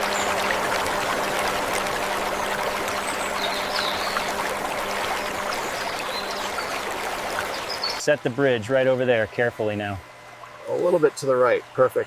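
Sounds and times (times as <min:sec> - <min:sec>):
stream trickling and splashing: 0:00.0 - 0:12.0.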